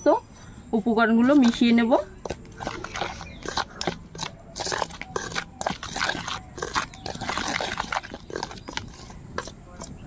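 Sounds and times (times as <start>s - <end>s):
metal spoon scraping steel bowl: 1.3s - 10.0s.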